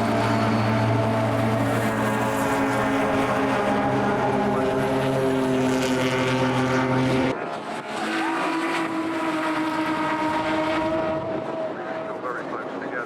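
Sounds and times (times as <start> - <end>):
engine note rising in pitch: 0.0 - 12.3
race car engines running hard: 0.0 - 13.0.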